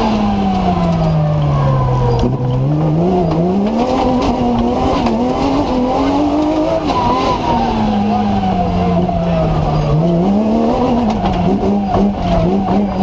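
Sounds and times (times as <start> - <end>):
racing car engine: 0.0 - 13.0.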